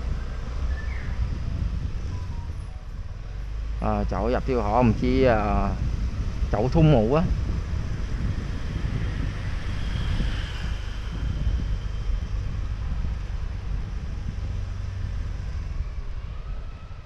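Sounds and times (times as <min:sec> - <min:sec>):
car traffic: 0:00.0 - 0:17.0
motorbike traffic: 0:00.0 - 0:17.0
wind buffeting microphone: 0:00.0 - 0:17.0.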